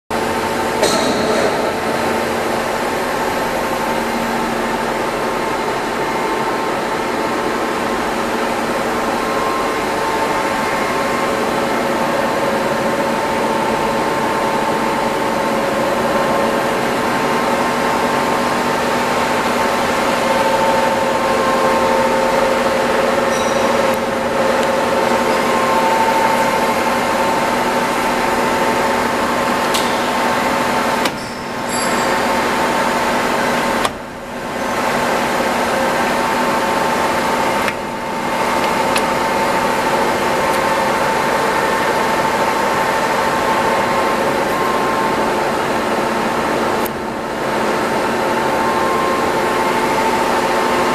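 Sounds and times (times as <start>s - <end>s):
lathe humming and whining: 0.1s - 50.9s.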